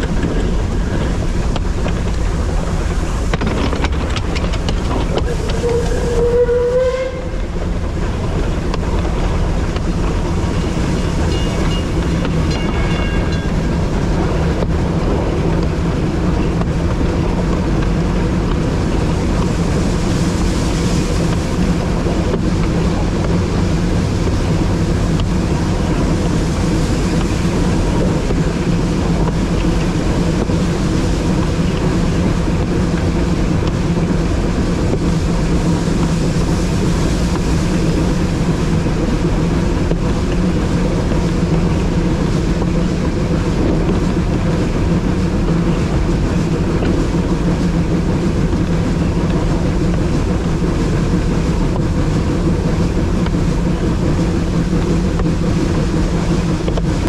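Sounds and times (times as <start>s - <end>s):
train running drone: 0.0s - 57.0s.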